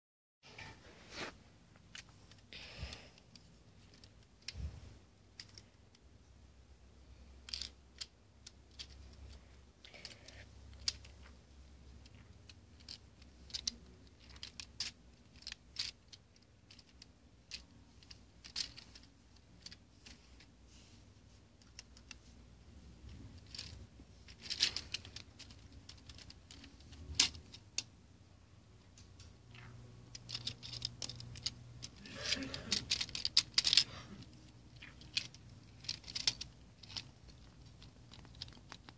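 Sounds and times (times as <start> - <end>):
plastic toy clicking and rattling: 1.9 - 4.7, 5.3 - 6.0, 7.2 - 20.5, 21.6 - 27.9, 28.9 - 38.9.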